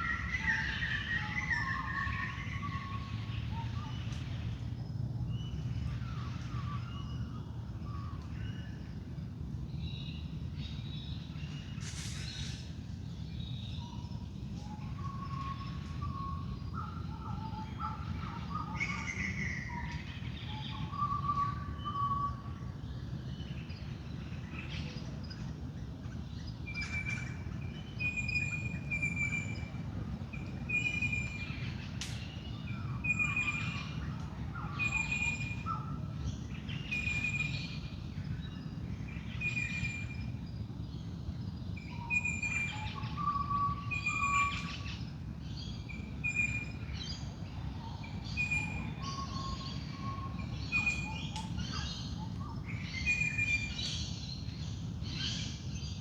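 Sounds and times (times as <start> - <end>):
birds singing in dawn chorus: 0.0 - 9.1, 9.7 - 56.0.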